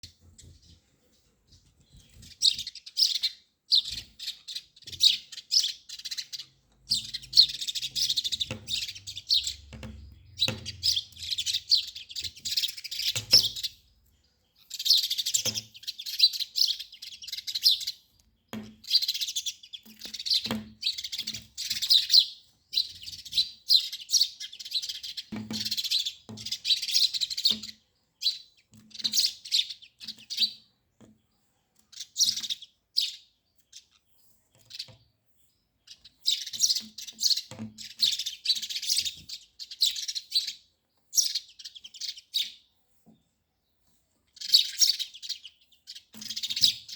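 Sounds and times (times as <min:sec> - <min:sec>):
birds chirping and twittering: 0:00.0 - 0:46.9.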